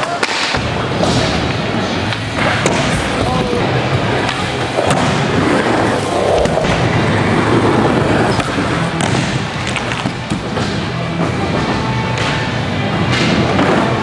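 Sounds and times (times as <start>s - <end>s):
skateboard wheels rolling: 0.6s - 14.0s.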